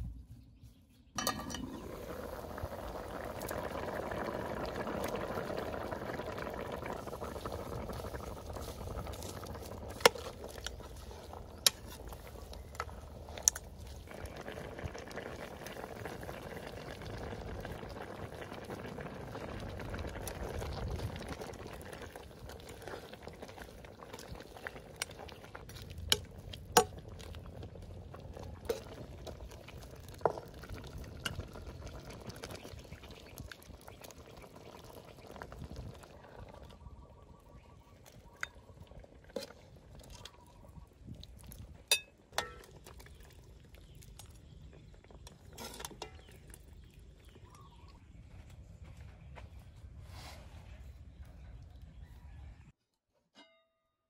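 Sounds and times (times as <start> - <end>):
steady watery noise: 1.2 - 48.0.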